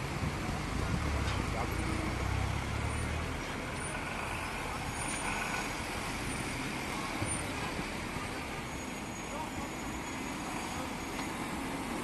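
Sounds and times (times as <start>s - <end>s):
heavy vehicle engine rumbling: 0.0s - 12.0s
outdoor street noise hiss: 0.0s - 12.0s.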